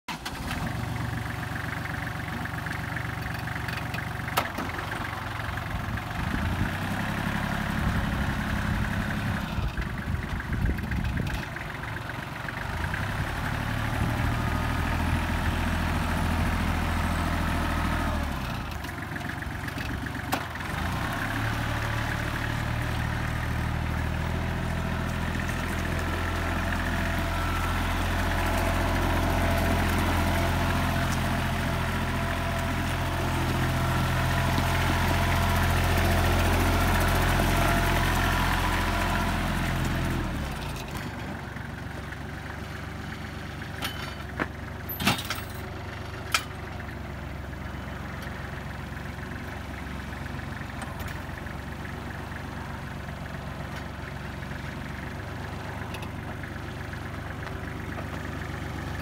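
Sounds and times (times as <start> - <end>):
tractor diesel engine running: 0.1 - 59.0.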